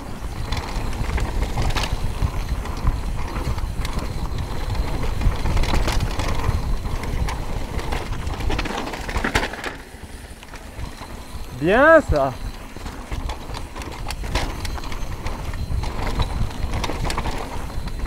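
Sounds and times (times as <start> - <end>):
bike clicking and rattling: 0.0 - 18.0
tyres rumbling on dirt: 0.0 - 18.0.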